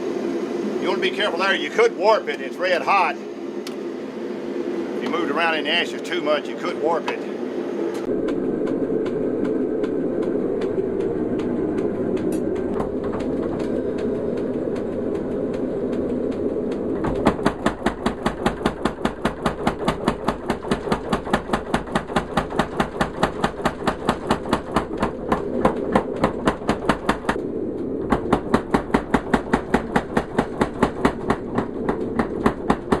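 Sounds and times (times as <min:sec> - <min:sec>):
gas forge rushing: 0:00.0 - 0:33.0.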